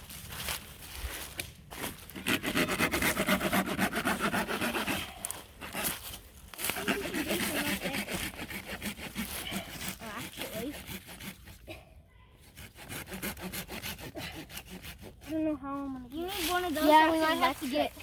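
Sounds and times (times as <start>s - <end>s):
hand saw cutting wood: 1.8s - 11.8s, 12.4s - 18.0s.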